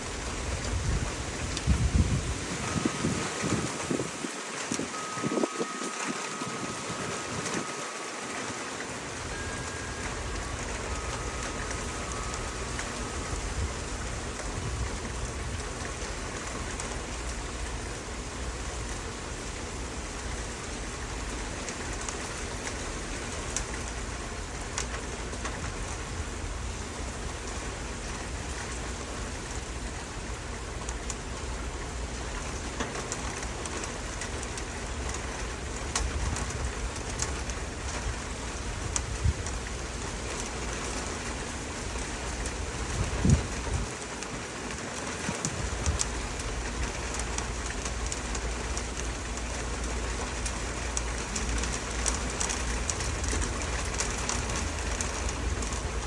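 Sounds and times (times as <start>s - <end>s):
rain pattering on surfaces: 0.0s - 56.0s
raindrops ticking: 0.0s - 56.0s.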